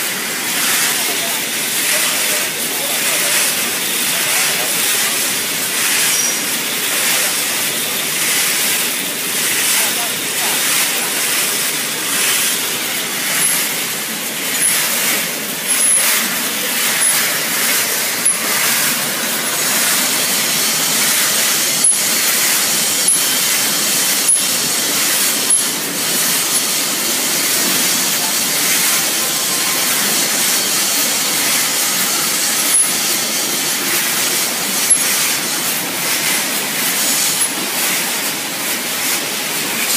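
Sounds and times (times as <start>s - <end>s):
machinery hissing: 0.0s - 39.9s.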